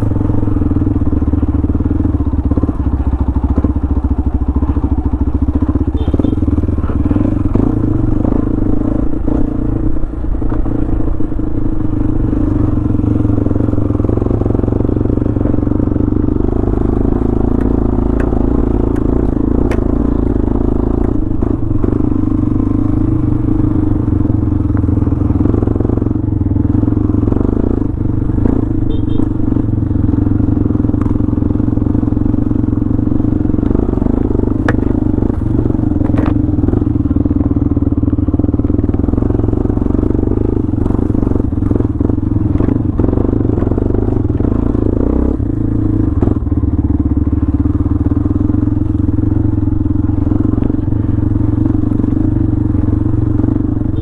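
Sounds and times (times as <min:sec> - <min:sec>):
knocks and clatter over ruts: 0:00.0 - 0:54.0
motorcycle engine running: 0:00.0 - 0:54.0.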